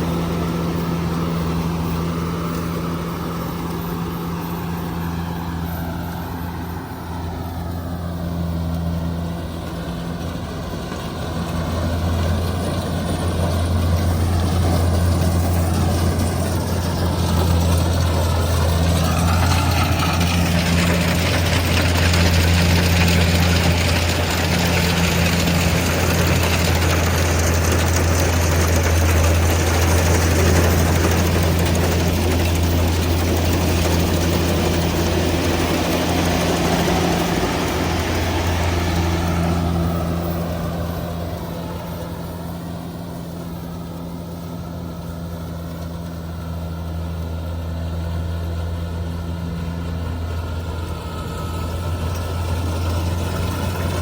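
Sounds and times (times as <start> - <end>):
rushing mechanical noise: 0.0 - 45.9
diesel engine droning: 0.0 - 54.0.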